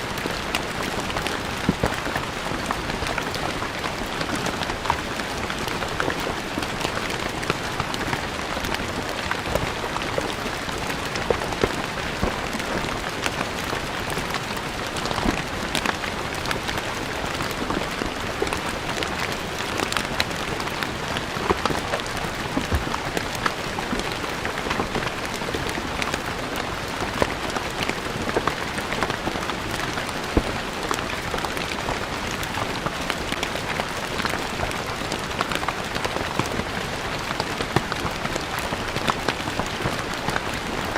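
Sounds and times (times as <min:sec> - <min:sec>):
rain falling on stone paving: 0:00.0 - 0:40.9.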